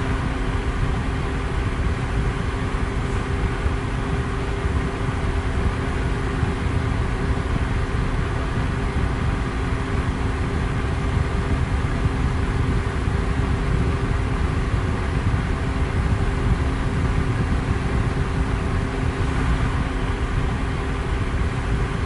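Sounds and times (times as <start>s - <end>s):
electric fan running: 0.0s - 22.0s.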